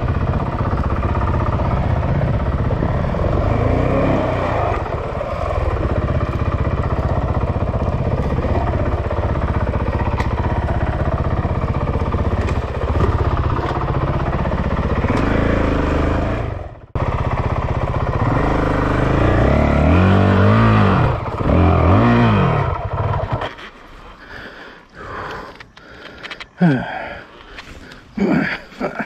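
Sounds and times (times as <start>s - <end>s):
dirt bike engine revving: 0.0s - 23.6s.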